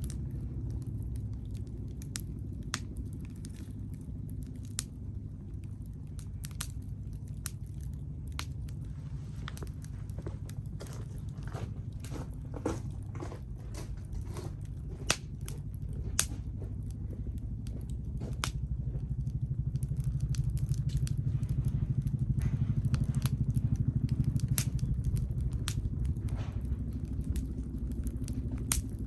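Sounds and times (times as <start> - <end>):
firewood crackling and popping: 0.0 - 29.0
low rumble: 0.0 - 29.0.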